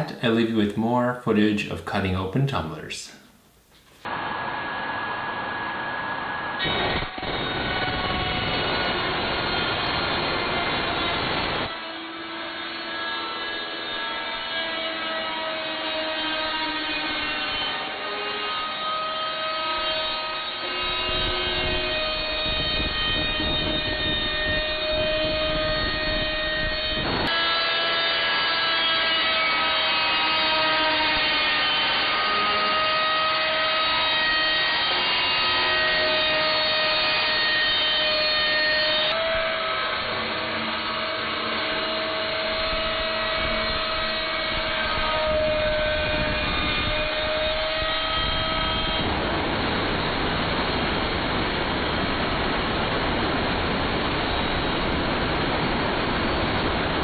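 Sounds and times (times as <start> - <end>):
saw cutting metal: 4.0 - 50.7.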